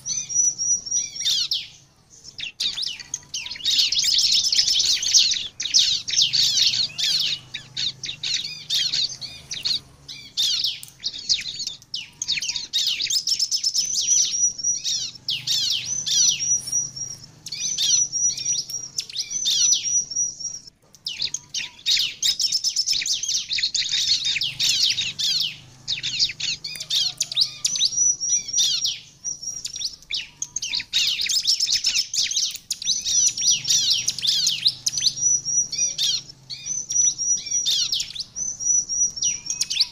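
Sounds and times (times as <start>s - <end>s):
bird singing fast high chirps: 0.0s - 39.9s.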